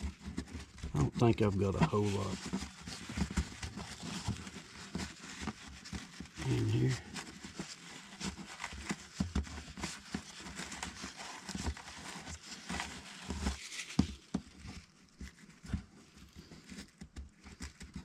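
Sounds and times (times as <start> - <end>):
scraping and rustling of dirt: 0.0 - 18.0.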